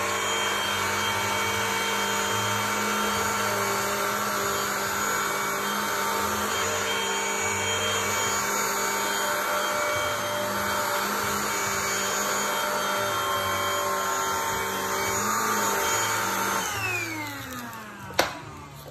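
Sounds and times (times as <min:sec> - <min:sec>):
vacuum cleaner motor whining: 0:00.0 - 0:18.9.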